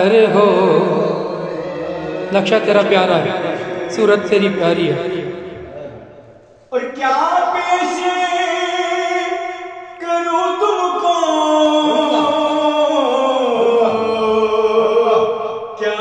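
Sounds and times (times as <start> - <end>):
man singing: 0.0 - 6.2, 6.8 - 16.0.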